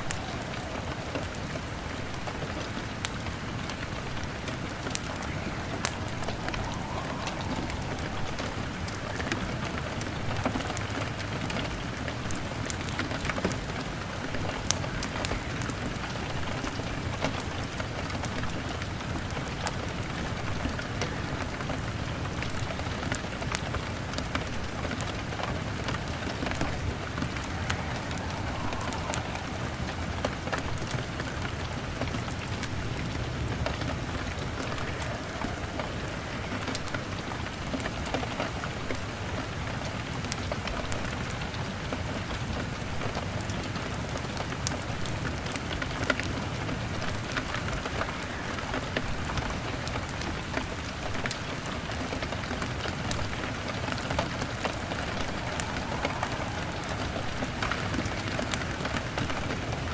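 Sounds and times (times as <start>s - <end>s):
log fire crackling: 0.0s - 41.0s, 44.4s - 59.9s
heavy rain on a window: 0.0s - 59.9s.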